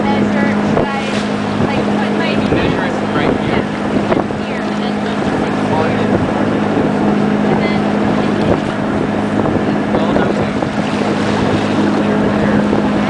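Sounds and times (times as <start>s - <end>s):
sea water splashing along hull: 0.0s - 13.0s
steady low hum: 0.0s - 13.0s
wind buffeting microphone: 0.0s - 13.0s.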